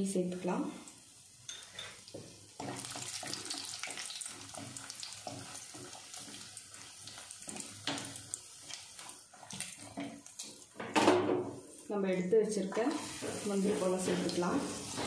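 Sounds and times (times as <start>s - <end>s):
nuts sizzling in hot oil: 0.3s - 10.8s, 12.6s - 15.0s.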